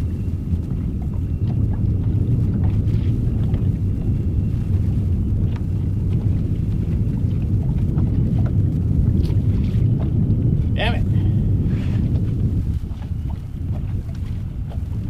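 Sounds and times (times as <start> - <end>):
outboard motor rumbling: 0.0 - 15.0.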